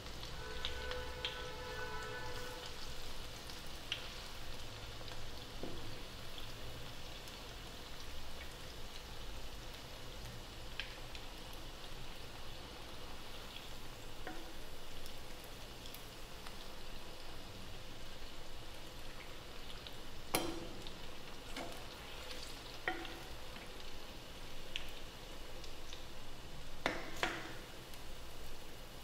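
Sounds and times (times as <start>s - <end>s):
hot oil sizzling and bubbling: 0.0s - 29.0s.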